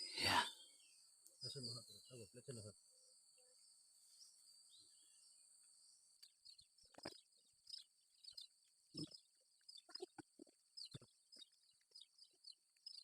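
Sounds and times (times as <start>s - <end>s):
faint insect chirring: 0.0s - 13.0s.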